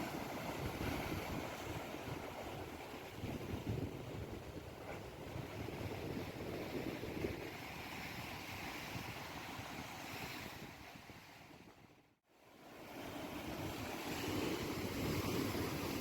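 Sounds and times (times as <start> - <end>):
wind buffeting microphone: 0.0 - 12.0, 13.4 - 16.0
sea waves: 0.0 - 16.0.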